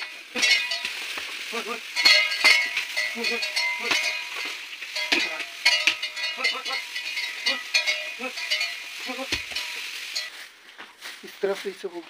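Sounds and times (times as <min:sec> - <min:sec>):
metallic clinking of neck bells: 0:00.0 - 0:10.5
straw rustling underfoot: 0:00.0 - 0:12.0.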